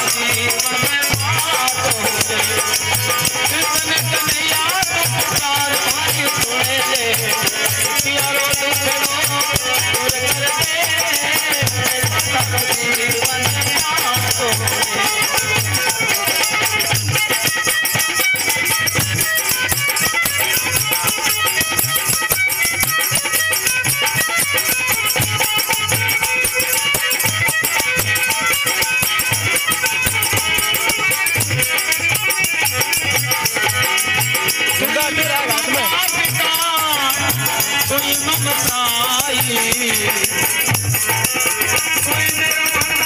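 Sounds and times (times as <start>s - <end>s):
hand drum beats: 0.0s - 43.0s
harmonium melody: 0.0s - 43.0s
jingling hand percussion: 0.0s - 43.0s.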